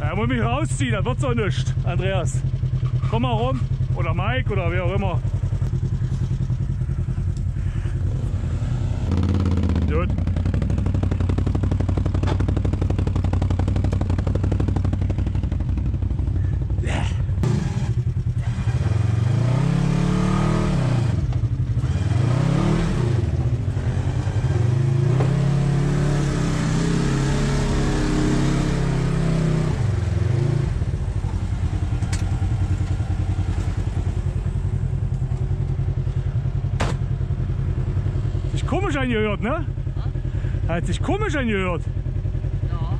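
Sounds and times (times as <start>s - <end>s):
buggy engine revving: 0.0s - 42.9s.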